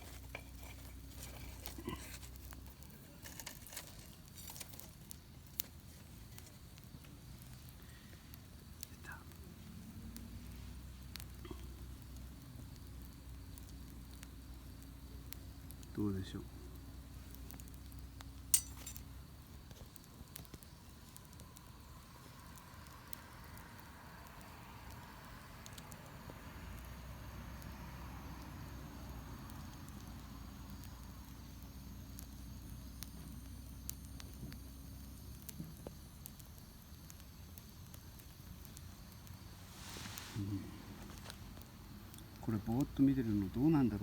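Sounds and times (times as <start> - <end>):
campfire crackling and popping: 0.0 - 44.0
faint low hum: 0.0 - 44.0.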